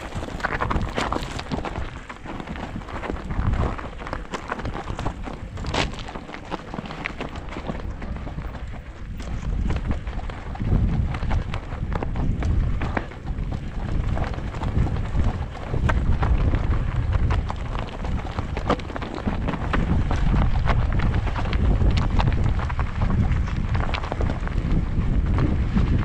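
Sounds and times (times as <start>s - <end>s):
bike rattling over rocky ground: 0.0s - 26.0s
wind buffeting microphone: 0.0s - 26.0s.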